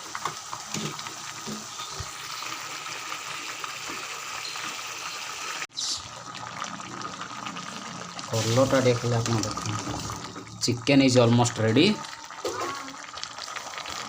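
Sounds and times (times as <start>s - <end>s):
curry sizzling in a pan: 0.0s - 14.0s.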